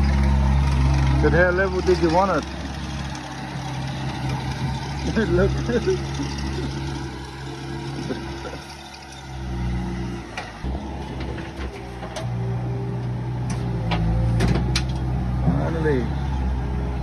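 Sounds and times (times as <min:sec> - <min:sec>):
loader engine under load: 0:00.0 - 0:17.0.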